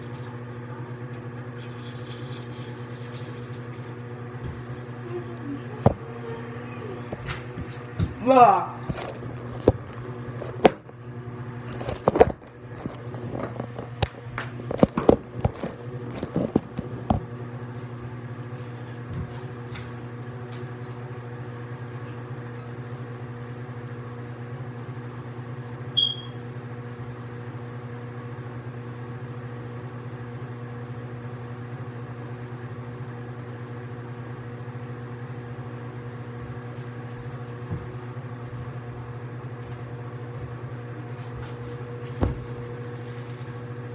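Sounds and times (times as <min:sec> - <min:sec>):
exhaust fan humming: 0:00.0 - 0:43.9.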